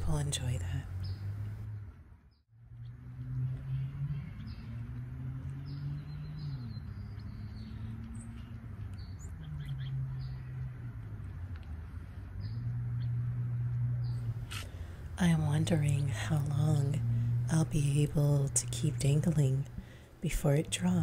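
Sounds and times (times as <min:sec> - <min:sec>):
low steady hum: 0:00.0 - 0:21.0
small birds chirping: 0:00.0 - 0:21.0.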